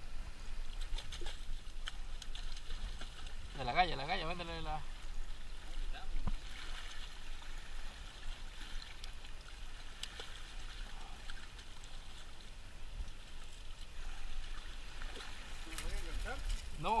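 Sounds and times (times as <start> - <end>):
sea water splashing on rocks: 0.4 - 12.4, 13.0 - 17.0.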